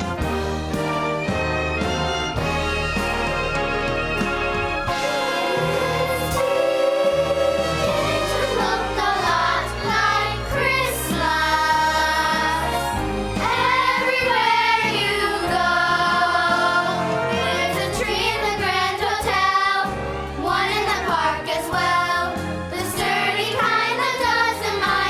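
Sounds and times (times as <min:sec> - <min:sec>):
instrumental accompaniment: 0:00.0 - 0:25.0
choir singing: 0:04.8 - 0:25.0.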